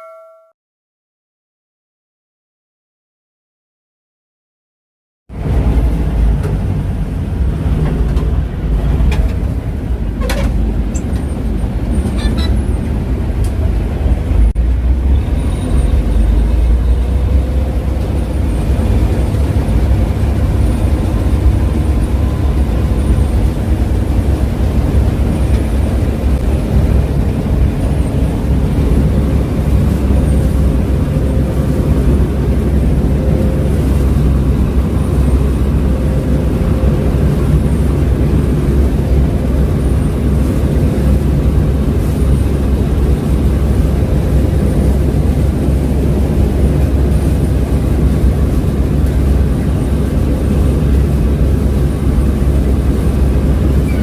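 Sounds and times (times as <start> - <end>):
combine harvester rumbling: 5.3 - 54.0.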